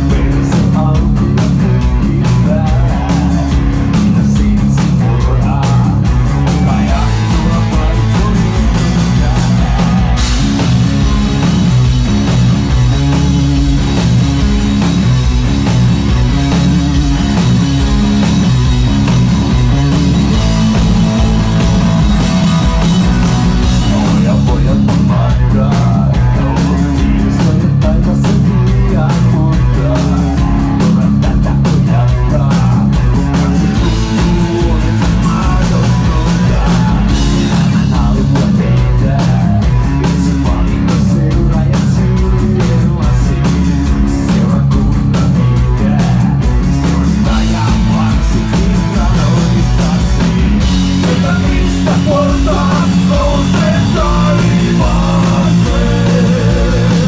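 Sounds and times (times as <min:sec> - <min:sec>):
bass guitar: 0:00.0 - 0:57.0
drums: 0:00.0 - 0:57.0
electric guitar: 0:00.0 - 0:57.0.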